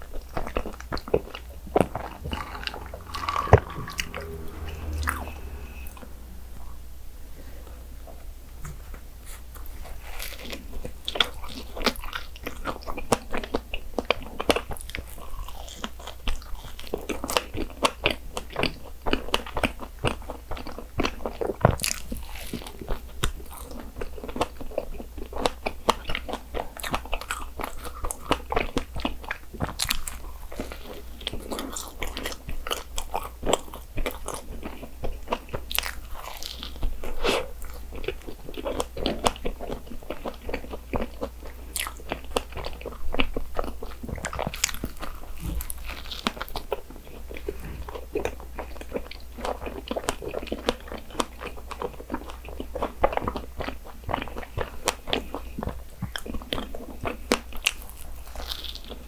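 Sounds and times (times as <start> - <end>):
biting and chewing soft bun: 9.3 - 59.0.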